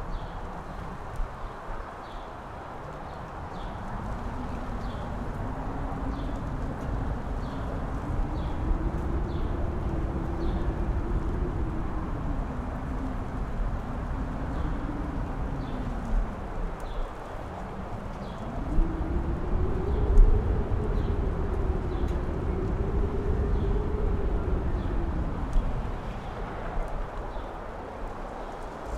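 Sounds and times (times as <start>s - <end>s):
strong wind howling: 0.0s - 28.9s
wind rumbling on microphone: 0.0s - 28.9s.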